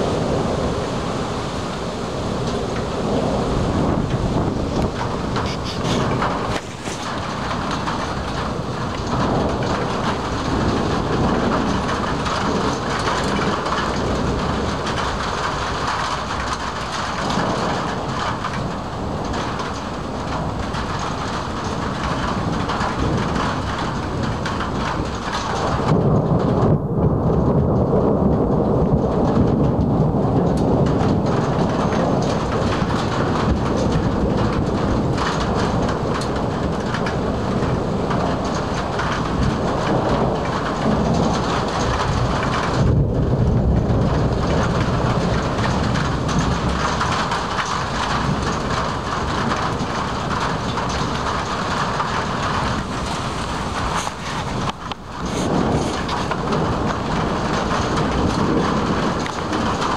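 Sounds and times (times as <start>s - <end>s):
heavy rain hissing: 0.0s - 26.0s, 30.2s - 59.9s
rolling thunder: 0.0s - 59.9s.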